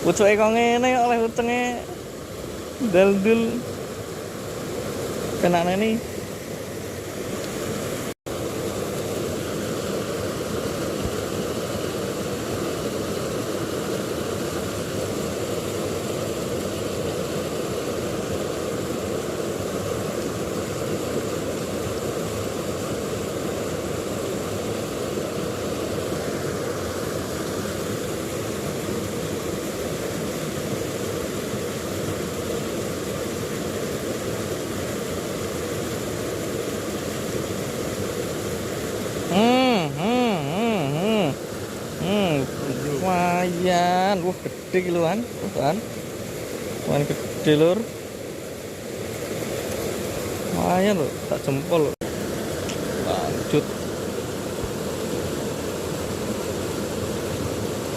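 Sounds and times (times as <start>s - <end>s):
river water rushing over rocks: 0.0s - 57.9s.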